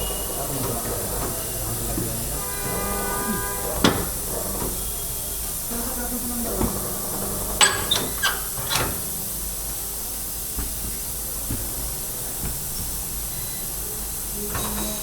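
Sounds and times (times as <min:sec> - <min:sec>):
compressed air hissing: 0:00.0 - 0:15.0.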